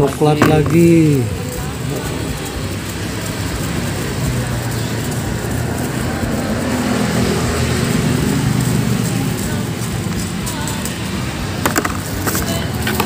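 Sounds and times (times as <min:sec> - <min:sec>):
hum of passing vehicles: 0:00.0 - 0:13.0.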